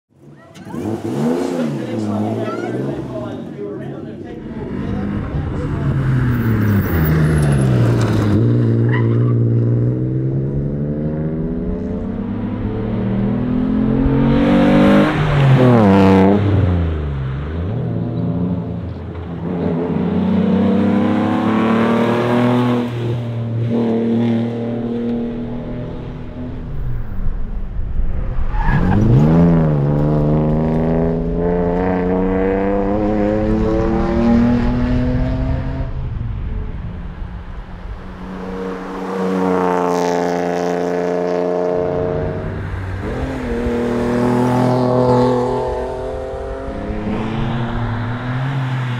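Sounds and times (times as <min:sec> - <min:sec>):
rally car engine accelerating: 0:00.2 - 0:48.9.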